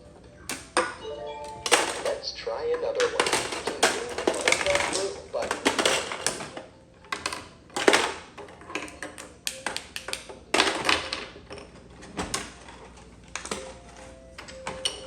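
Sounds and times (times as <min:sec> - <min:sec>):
plastic toy clicking and clattering: 0:00.4 - 0:02.2, 0:02.8 - 0:15.0.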